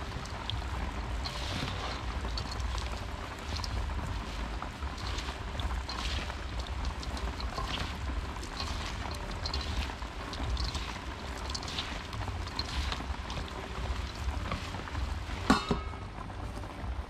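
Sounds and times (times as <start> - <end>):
wet crisp rustling of salad: 0.0 - 15.7
low rumble: 0.0 - 17.0.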